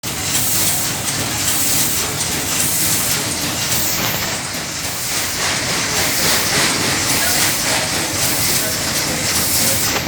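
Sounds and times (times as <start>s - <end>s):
steam engine running: 0.0s - 10.0s
steam hissing: 0.0s - 10.0s.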